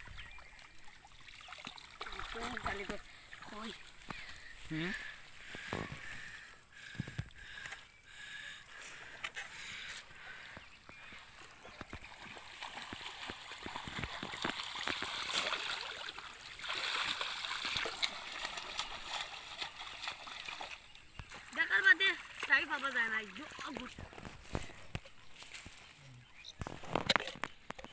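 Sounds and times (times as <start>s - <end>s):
muddy water splashing: 0.0s - 27.9s.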